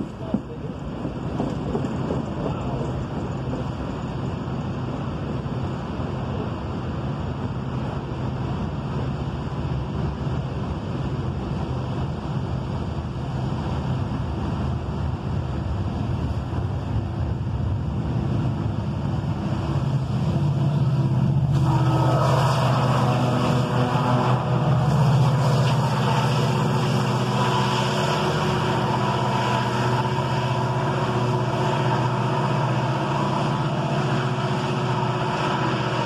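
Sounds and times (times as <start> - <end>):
freight cars rolling on rails: 0.0 - 36.0
locomotive engine hum: 0.0 - 36.0
cooling fan noise: 4.0 - 36.0.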